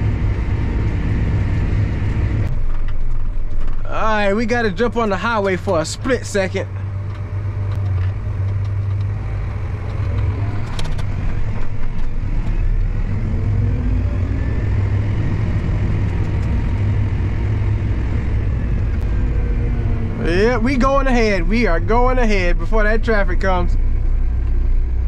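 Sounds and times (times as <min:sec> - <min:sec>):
road noise: 0:00.0 - 0:25.0
tractor engine drone: 0:00.0 - 0:25.0.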